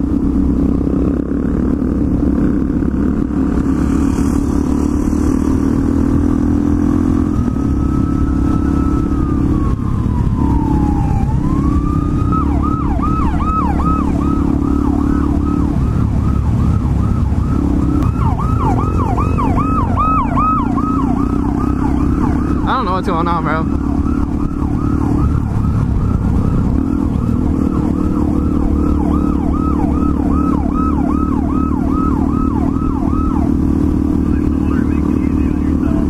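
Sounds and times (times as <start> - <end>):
motorcycle engine drone: 0.0 - 36.0
police siren wailing and yelping: 7.1 - 36.0.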